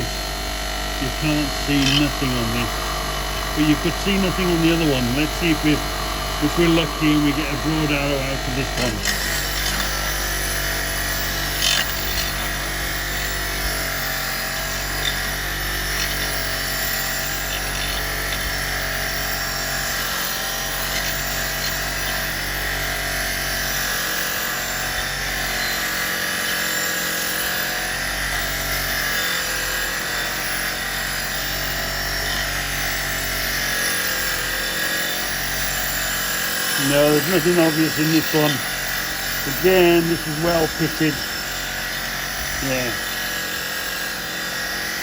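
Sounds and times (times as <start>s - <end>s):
rotary wire brush on steel: 0.0s - 45.0s.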